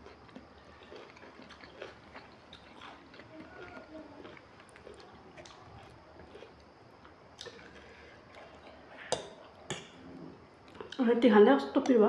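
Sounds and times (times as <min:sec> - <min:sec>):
faint chewing of noodles: 0:00.0 - 0:11.0.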